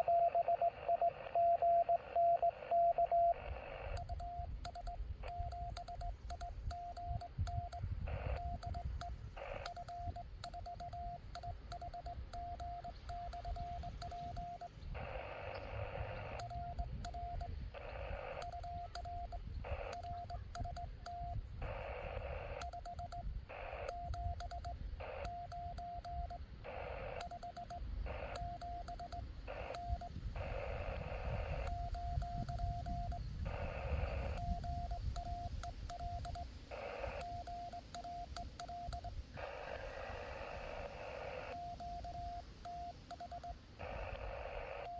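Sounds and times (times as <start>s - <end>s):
morse code sidetone beeping: 0.0s - 44.9s
radio hiss bursts: 0.0s - 44.9s.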